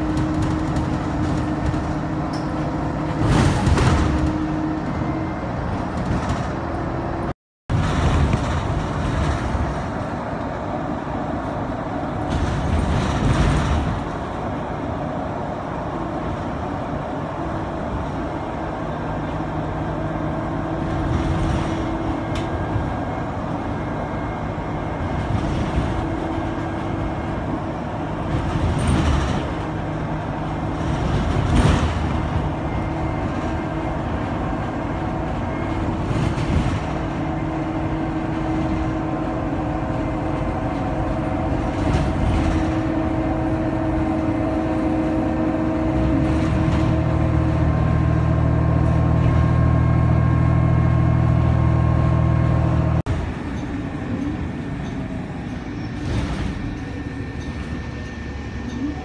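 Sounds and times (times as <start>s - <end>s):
bus engine hum: 0.0s - 59.0s
road noise: 0.0s - 59.0s.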